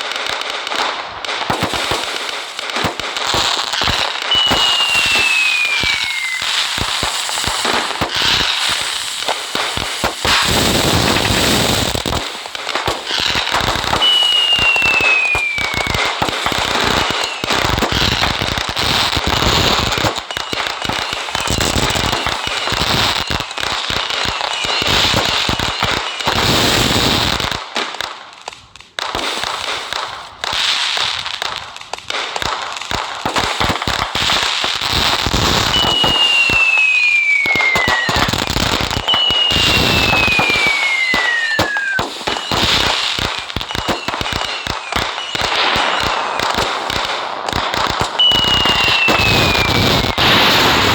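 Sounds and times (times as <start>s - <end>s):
fireworks crackling and popping: 0.0s - 50.9s
falling firework whistle: 1.5s - 27.6s, 33.2s - 50.9s.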